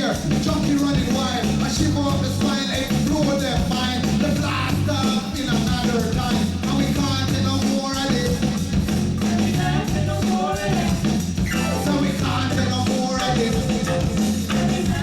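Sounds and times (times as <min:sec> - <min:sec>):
live reggae band playing: 0:00.0 - 0:15.0
person singing: 0:00.0 - 0:15.0.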